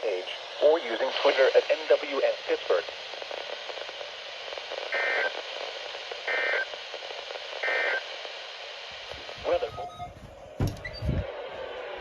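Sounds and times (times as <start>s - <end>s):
static hiss: 0.0s - 12.0s.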